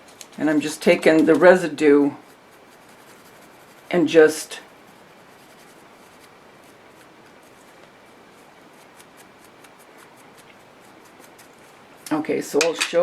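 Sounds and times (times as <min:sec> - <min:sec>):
dry paintbrush scratching: 0:00.0 - 0:12.2.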